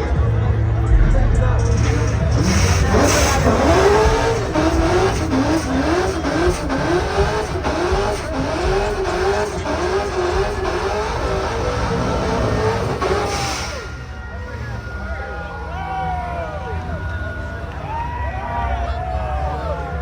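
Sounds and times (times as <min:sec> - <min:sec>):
tire noise: 0:00.0 - 0:20.0
car engine revving: 0:00.8 - 0:20.0.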